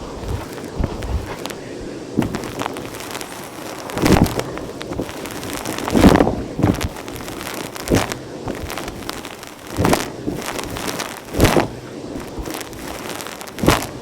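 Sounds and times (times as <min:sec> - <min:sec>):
debris crackling up the hose: 0:00.0 - 0:14.0.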